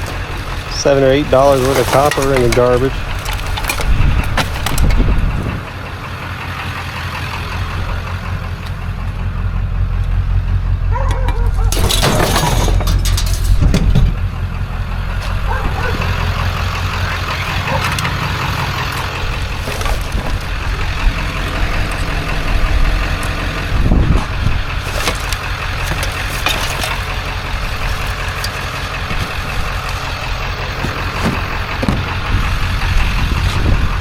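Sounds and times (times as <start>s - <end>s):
knocks and clanks: 0.0s - 5.8s, 10.9s - 14.5s, 15.1s - 34.0s
truck engine rumbling: 0.0s - 34.0s.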